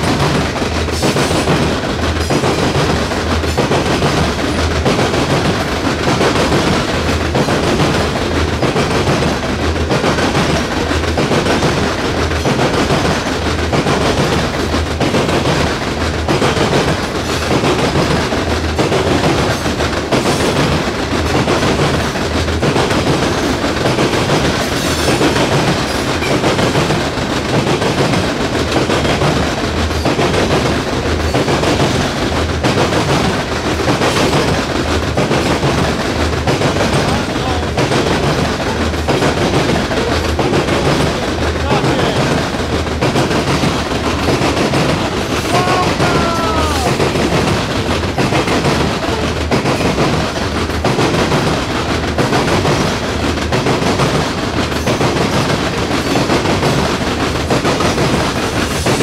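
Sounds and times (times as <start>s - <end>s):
train rumble: 0.0s - 59.0s
train wheels clicking over rail joints: 0.0s - 59.0s.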